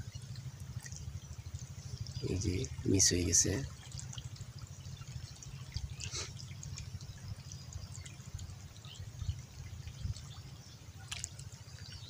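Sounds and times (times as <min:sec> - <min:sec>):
faint river water: 0:00.0 - 0:12.0
steady low rumble: 0:00.0 - 0:12.0.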